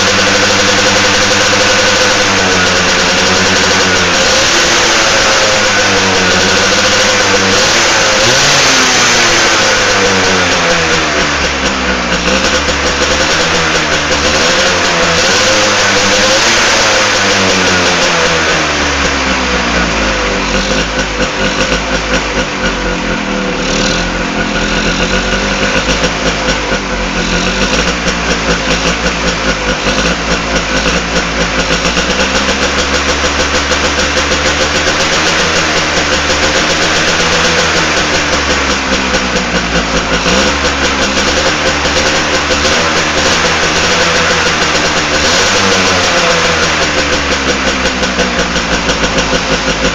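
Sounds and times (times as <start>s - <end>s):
two-stroke motorcycle engine revving: 0.0s - 49.9s.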